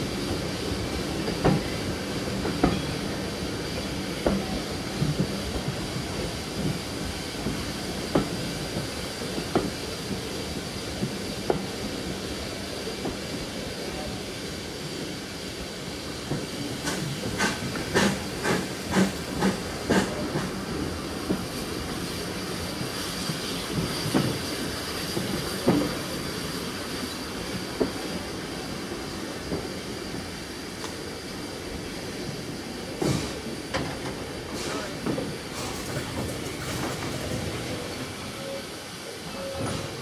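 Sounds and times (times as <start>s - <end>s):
train coaches rumbling: 0.0s - 40.0s.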